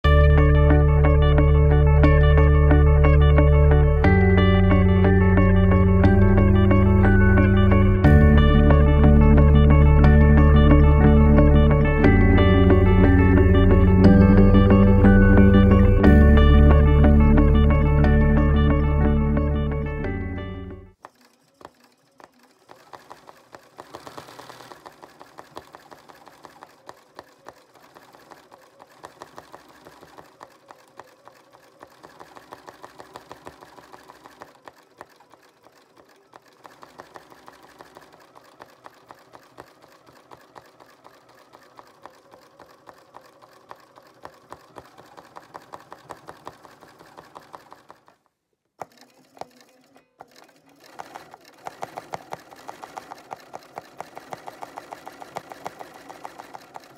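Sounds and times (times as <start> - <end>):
sewing machine stitching: 0.0 - 56.9.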